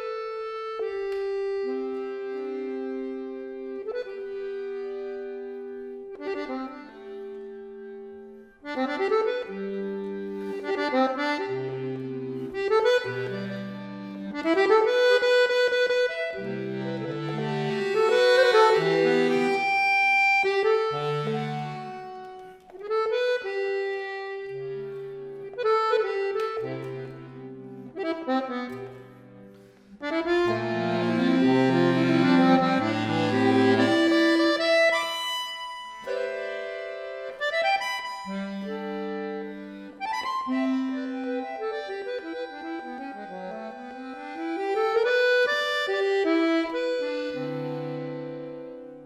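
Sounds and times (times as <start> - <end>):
accordion playing slow chords: 0.0 - 49.0.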